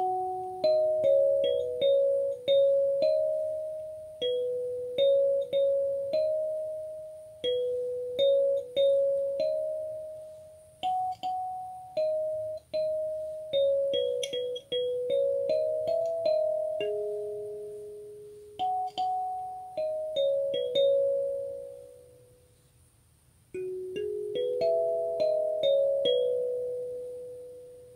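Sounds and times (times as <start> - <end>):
kalimba melody: 0.0 - 22.4, 23.6 - 27.9.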